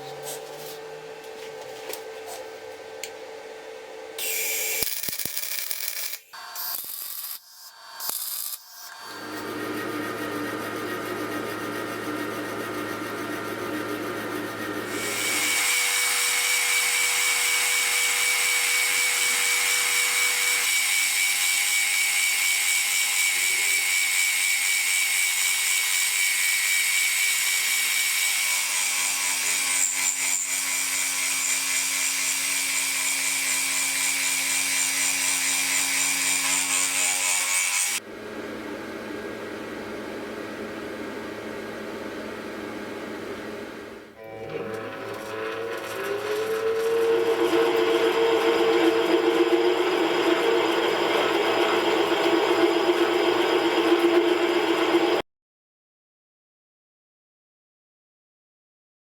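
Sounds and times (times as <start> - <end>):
electric power tool running: 4.2 - 38.1, 41.4 - 55.2.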